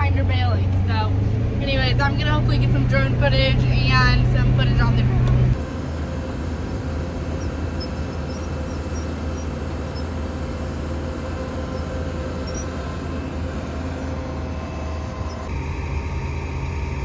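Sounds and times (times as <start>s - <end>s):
heavy engine droning: 0.0s - 17.0s.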